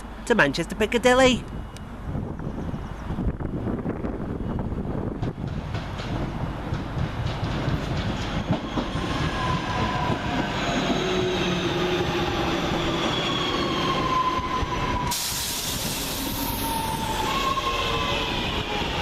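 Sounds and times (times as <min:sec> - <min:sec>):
electric train whine and rumble: 0:01.4 - 0:19.0.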